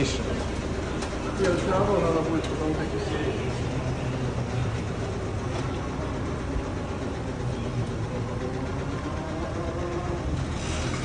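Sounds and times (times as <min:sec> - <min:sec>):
buggy engine running: 0:00.0 - 0:11.0.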